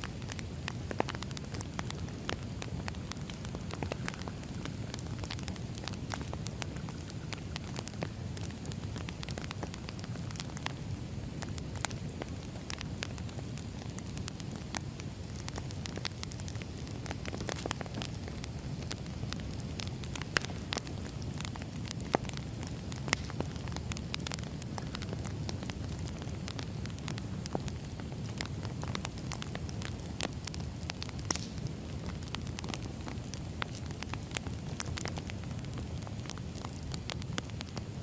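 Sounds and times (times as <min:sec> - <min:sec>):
fire snapping and popping: 0:00.0 - 0:38.0
wood fire crackling: 0:00.0 - 0:38.0.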